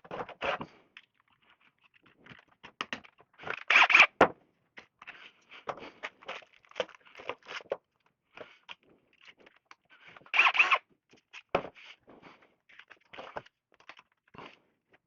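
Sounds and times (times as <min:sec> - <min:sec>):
scraping and crackling handling: 0:00.0 - 0:14.6.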